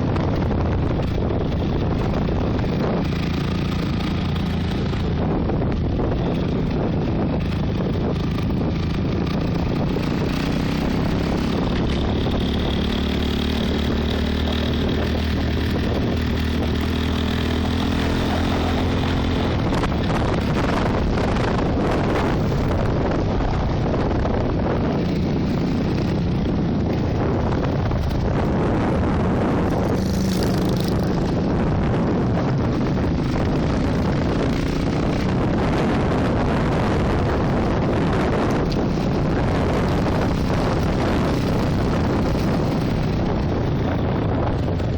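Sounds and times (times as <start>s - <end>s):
motorcycle engine revving: 0.0s - 44.9s
wind noise on microphone: 0.0s - 44.9s.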